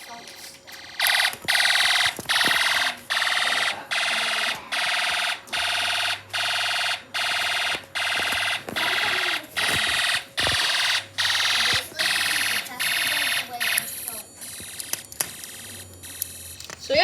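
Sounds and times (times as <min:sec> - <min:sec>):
pulsing electronic alarm tone: 0:00.7 - 0:17.0.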